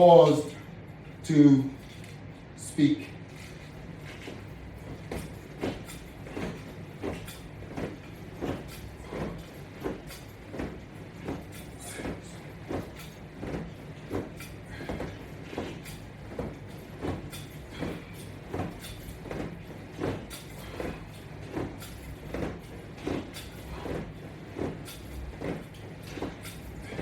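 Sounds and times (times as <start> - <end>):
resistance band creaking and swishing: 3.3 - 27.0.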